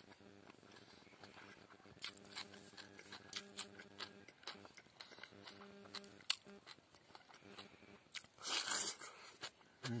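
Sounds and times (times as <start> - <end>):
chewing mouth sounds: 0.1 - 10.0.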